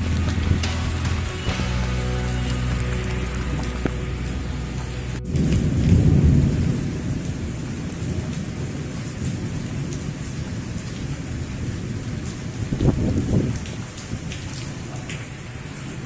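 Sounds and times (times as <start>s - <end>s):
thunder rumbling: 0.0s - 14.4s
heavy rain falling: 0.0s - 16.0s.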